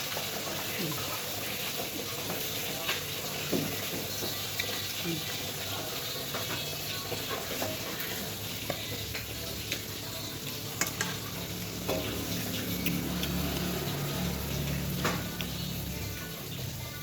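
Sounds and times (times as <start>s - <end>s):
pan sizzling: 0.0s - 17.0s.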